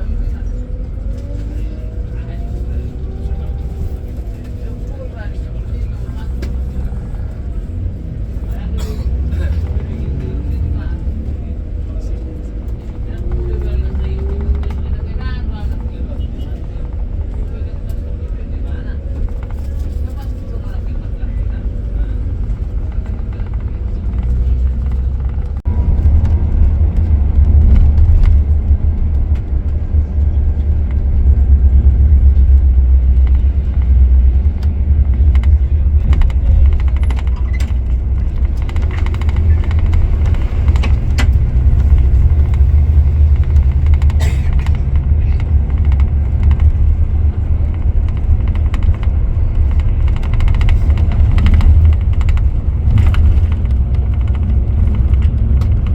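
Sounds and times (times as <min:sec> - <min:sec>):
coach engine and road rumble: 0:00.0 - 0:55.9.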